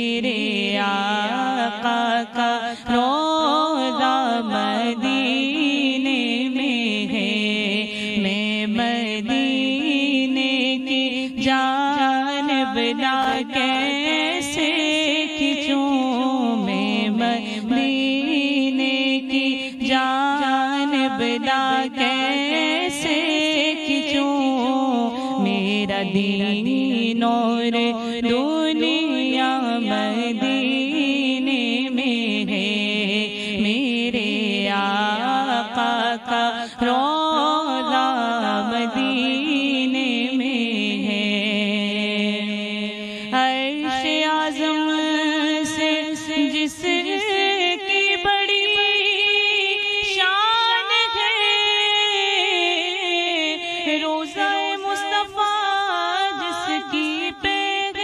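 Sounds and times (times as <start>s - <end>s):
woman singing into a microphone: 0.0s - 58.0s.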